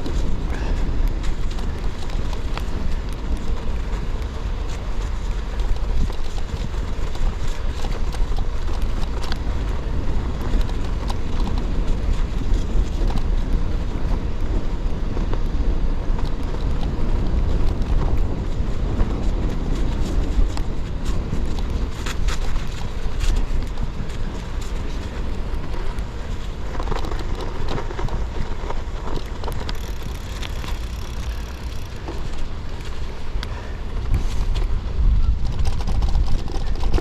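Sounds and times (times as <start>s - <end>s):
bike tyres crunching over snow: 0.0s - 37.0s
wind rumbling on microphone: 0.0s - 37.0s.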